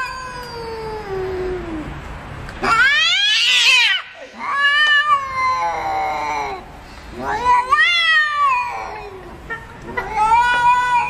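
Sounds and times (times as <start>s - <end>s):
cats yowling: 0.0s - 1.9s, 2.6s - 11.0s.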